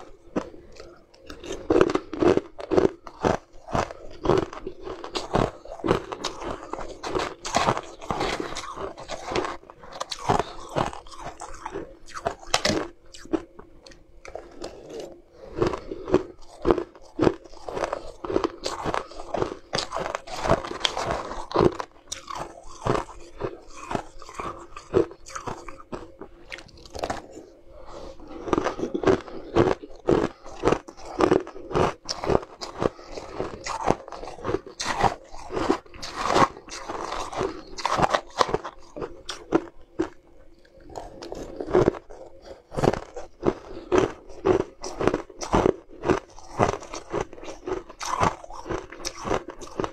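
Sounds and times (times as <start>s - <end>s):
ice being chewed: 0.0s - 49.9s.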